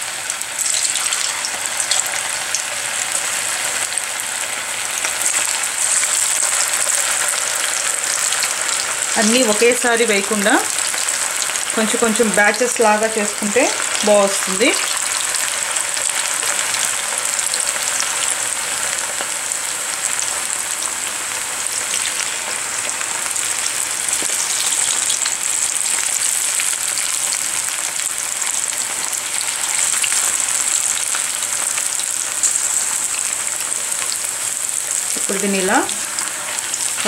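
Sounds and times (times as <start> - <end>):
food deep-frying in oil: 0.0 - 37.0.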